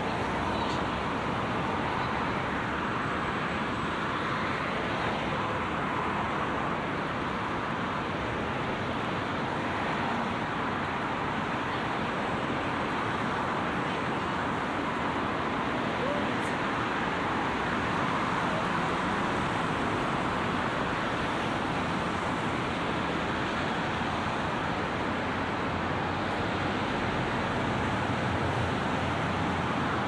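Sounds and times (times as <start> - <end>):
city road traffic: 0.0 - 30.0.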